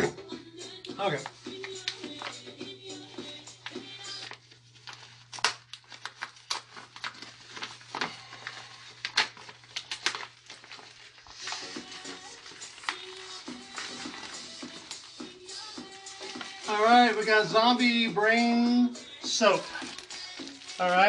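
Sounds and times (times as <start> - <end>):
plastic packaging crinkling: 1.0 - 21.0.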